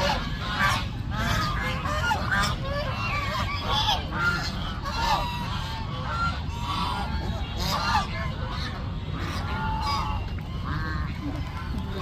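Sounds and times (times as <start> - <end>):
waterfowl honking: 0.0 - 12.0.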